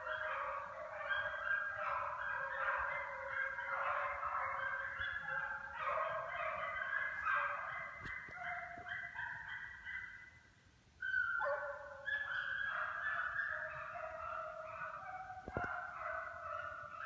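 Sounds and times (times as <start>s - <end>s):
hounds baying: 0.0s - 10.4s, 11.0s - 17.0s.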